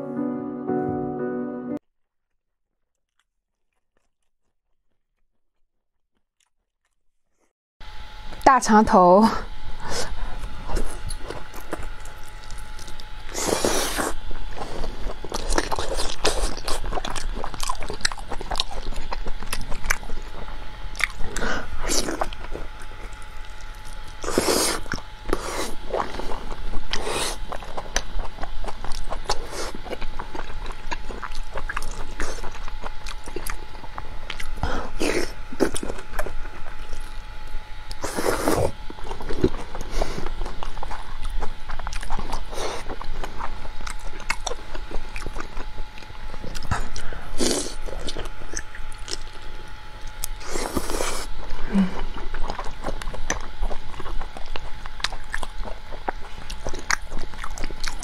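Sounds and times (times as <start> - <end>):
wet chewing and biting: 2.1 - 7.4, 10.2 - 58.0.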